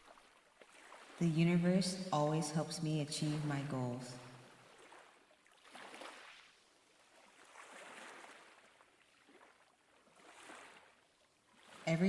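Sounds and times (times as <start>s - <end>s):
faint ocean waves: 0.0s - 12.0s.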